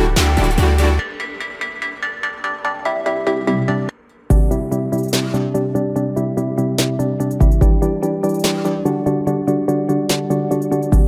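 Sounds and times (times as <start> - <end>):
electronic music with ticking beat: 0.0 - 11.0.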